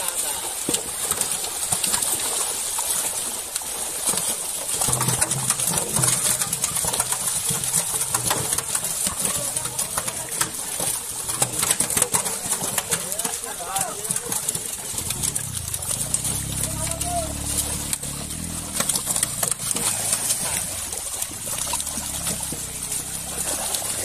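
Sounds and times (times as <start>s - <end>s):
fish slapping and splashing: 0.0s - 24.0s.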